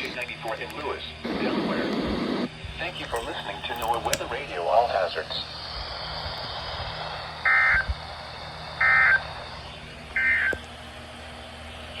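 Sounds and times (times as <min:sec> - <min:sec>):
radio hiss: 0:00.0 - 0:10.6.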